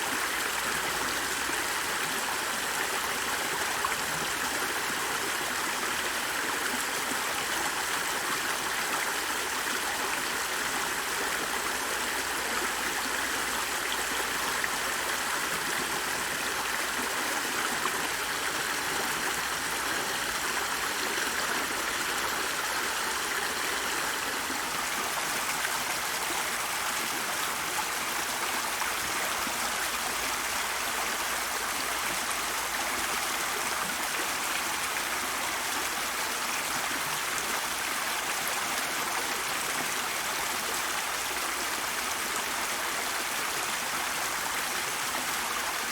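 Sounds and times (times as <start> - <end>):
stream rushing and burbling: 0.0 - 45.9.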